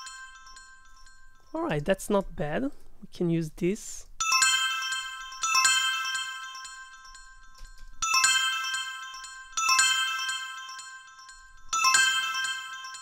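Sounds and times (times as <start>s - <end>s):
bell notification chime: 0.0s - 1.7s, 4.2s - 13.0s.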